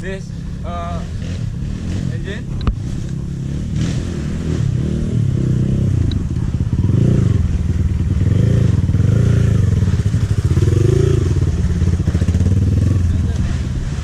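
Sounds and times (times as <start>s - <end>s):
dirt bike engine revving: 0.6s - 14.0s.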